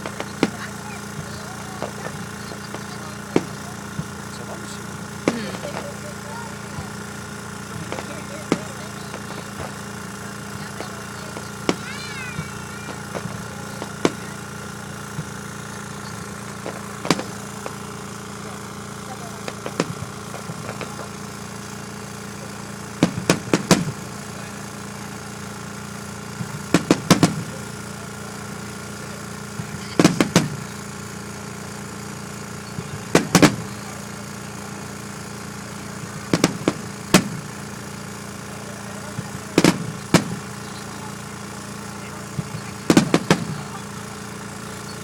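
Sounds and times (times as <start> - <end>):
fireworks bangs: 0.0 - 45.0
steady low hum: 0.0 - 45.0.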